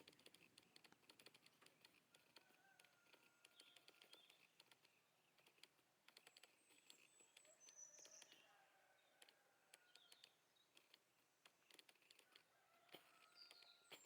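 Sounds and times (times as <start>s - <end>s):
soft ticks: 0.0s - 14.0s.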